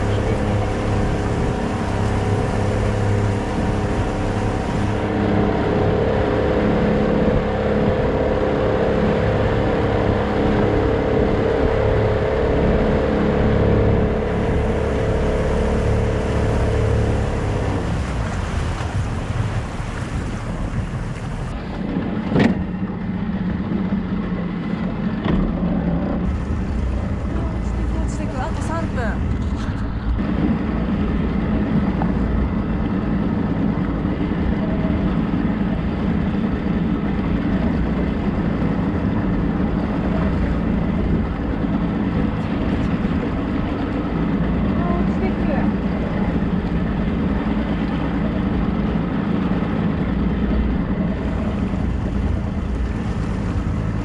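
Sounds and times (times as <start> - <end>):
motorboat engine humming: 0.0 - 54.0
rush of wind and water: 0.0 - 54.0.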